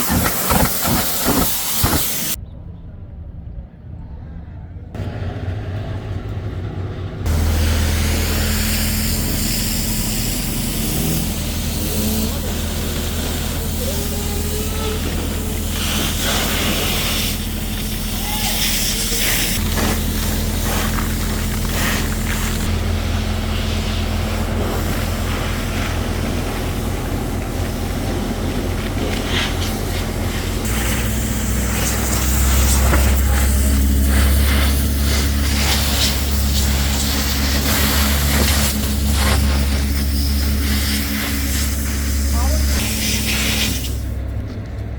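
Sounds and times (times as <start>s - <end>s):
high-pressure spray hissing: 0.0s - 2.4s, 7.3s - 44.2s
pressure washer pump humming: 0.0s - 2.4s, 5.0s - 44.9s.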